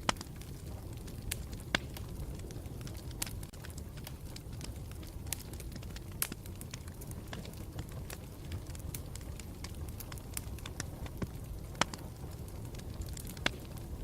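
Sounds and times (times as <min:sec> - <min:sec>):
campfire rumbling: 0:00.0 - 0:14.0
fire crackling and popping: 0:00.0 - 0:14.0.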